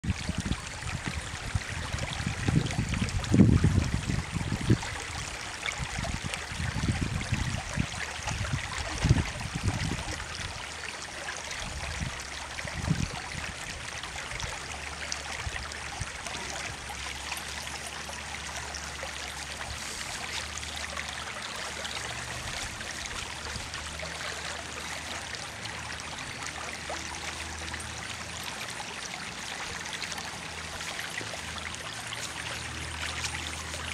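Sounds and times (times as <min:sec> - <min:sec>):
small stream trickling: 0:00.0 - 0:33.9.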